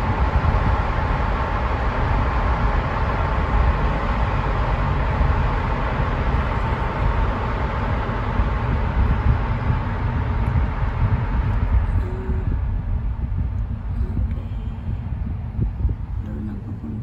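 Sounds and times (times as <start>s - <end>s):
faint steady hum: 0.0s - 17.0s
low rumble of tyres and engine: 0.0s - 17.0s.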